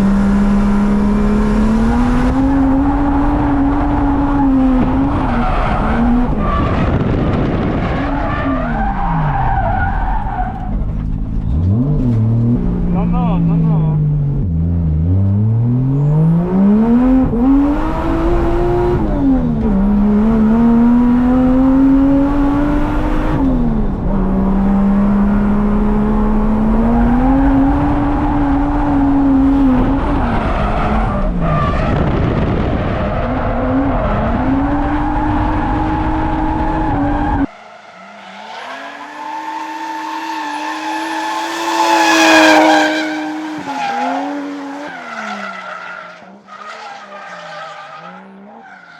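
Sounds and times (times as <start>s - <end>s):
car engine revving: 0.0s - 46.5s.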